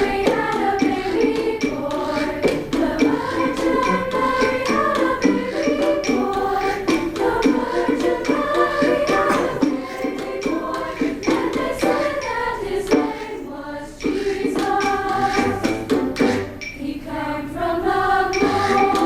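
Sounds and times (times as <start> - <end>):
women's choir singing in harmony: 0.0 - 19.0.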